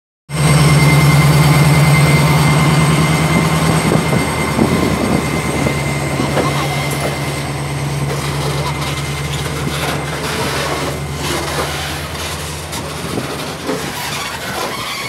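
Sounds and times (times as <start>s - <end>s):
freight train pulsing hum: 0.3s - 15.0s
train wheels clattering: 1.3s - 15.0s.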